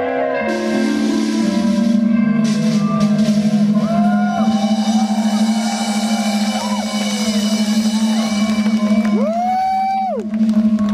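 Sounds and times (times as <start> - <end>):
live rock band music: 0.0 - 10.9.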